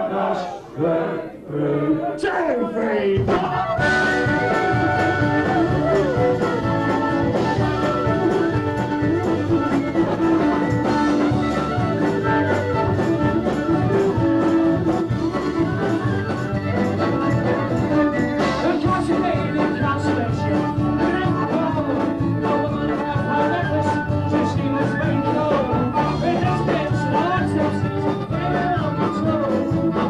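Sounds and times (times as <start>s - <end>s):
live band playing: 3.1s - 30.0s
drum kit: 3.2s - 30.0s
fiddle: 3.8s - 30.0s.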